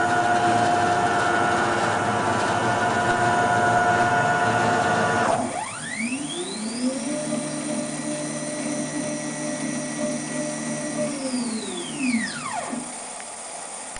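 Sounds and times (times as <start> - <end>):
stepper motors whining: 0.0 - 13.9.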